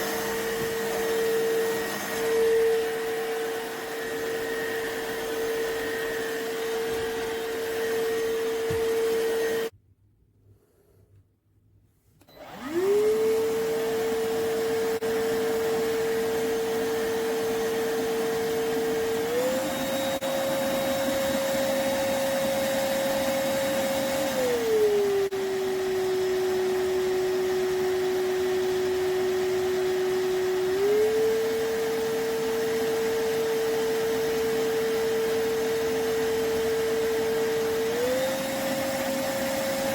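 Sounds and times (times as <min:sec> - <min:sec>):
vacuum cleaner motor humming: 0:00.0 - 0:09.7, 0:12.2 - 0:39.9.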